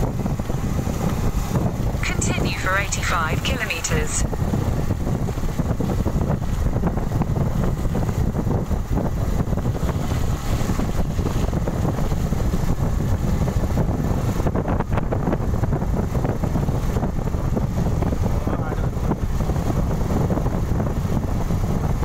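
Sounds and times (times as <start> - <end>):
motorcycle running noise: 0.0 - 22.0
wind buffeting microphone: 0.0 - 22.0.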